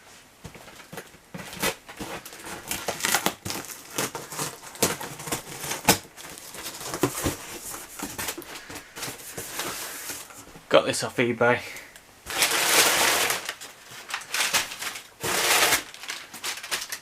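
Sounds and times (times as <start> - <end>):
packaging crinkling and rustling: 0.4 - 10.6, 12.3 - 17.0.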